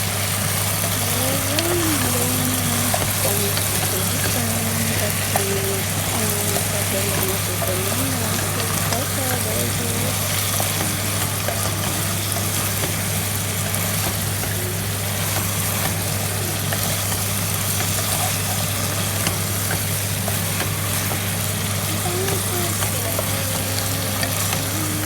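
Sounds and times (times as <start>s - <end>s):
constant low hum: 0.0s - 25.0s
food sizzling in a frying pan: 0.0s - 25.0s.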